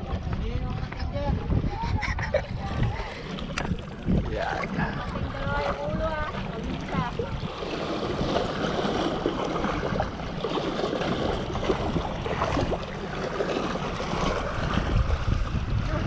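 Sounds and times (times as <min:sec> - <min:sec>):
wind buffeting microphone: 0:00.0 - 0:16.0
small waves splashing on boulders: 0:02.5 - 0:16.0.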